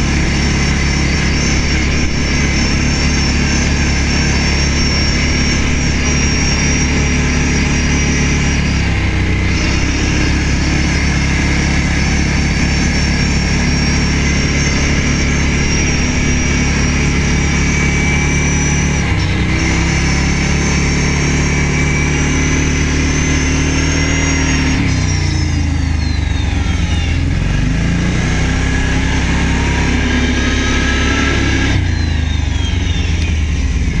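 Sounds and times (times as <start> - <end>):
quad engine running: 0.0 - 34.0.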